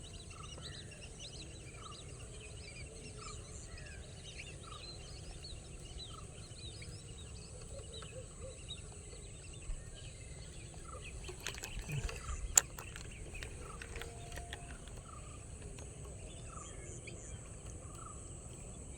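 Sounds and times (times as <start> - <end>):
birds chirping and calling: 0.0 - 18.9.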